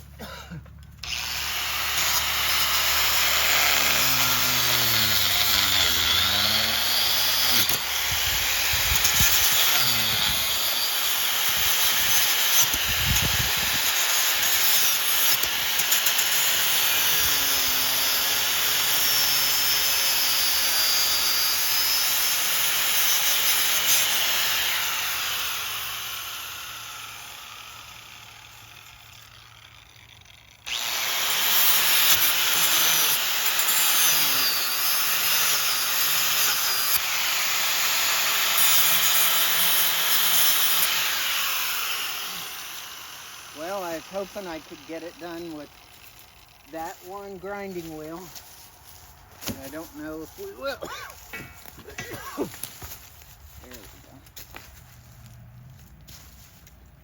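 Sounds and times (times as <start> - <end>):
angle grinder cutting steel: 1.0 - 52.6.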